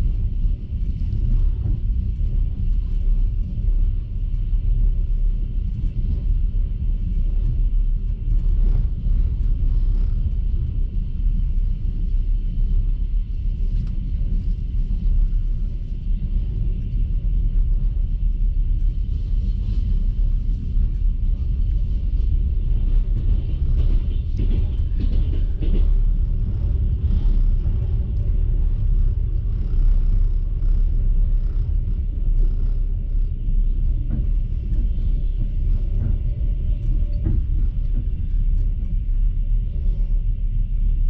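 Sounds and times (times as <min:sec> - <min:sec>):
faint steady whine: 0:00.0 - 0:41.0
train wheels rumbling on rails: 0:00.0 - 0:41.0.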